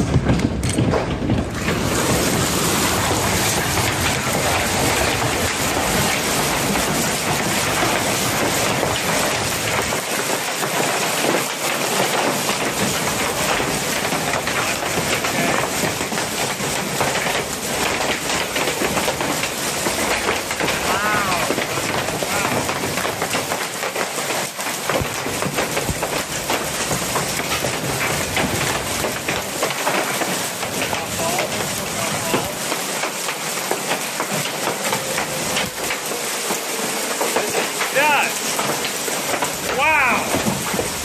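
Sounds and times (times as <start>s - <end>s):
heavy rain and hail: 0.0s - 41.0s.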